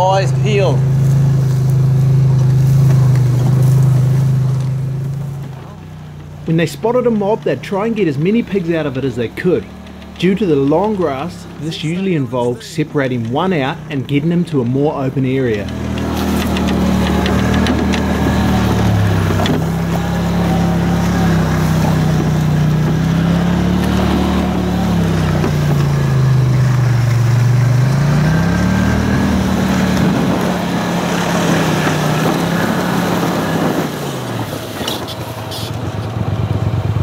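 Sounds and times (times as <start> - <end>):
quad bike engine: 0.0 - 37.0.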